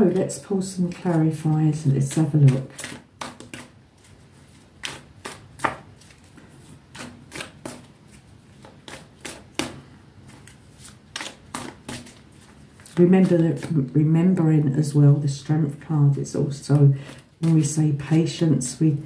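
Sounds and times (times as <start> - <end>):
cards being shuffled by hand: 0.7 - 14.0, 16.7 - 18.8.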